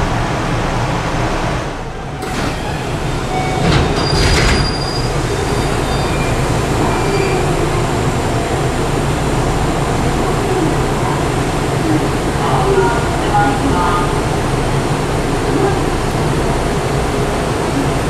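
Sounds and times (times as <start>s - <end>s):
hum of stopped train: 0.0s - 18.0s
train doors sliding open: 0.3s - 18.0s.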